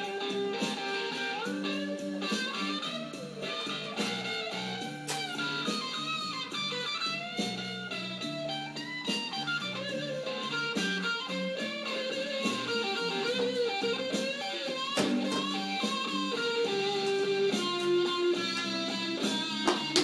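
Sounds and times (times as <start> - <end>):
electric blues band playing: 0.0 - 20.0
electric guitar lead: 0.0 - 20.0.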